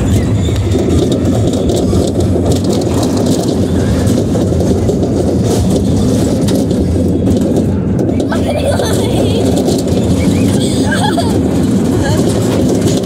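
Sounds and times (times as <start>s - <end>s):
fairground ride machinery rumble: 0.0s - 13.0s.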